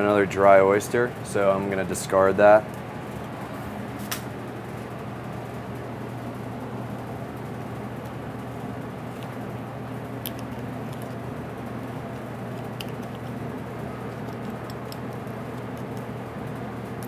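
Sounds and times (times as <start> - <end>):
kitchen machinery hum: 0.0 - 17.0.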